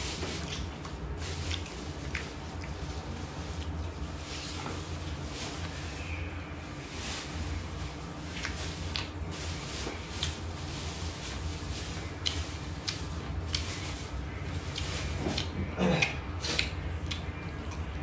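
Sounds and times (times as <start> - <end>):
man chewing food: 0.0 - 5.8, 8.0 - 18.0
steady low hum: 0.0 - 18.0.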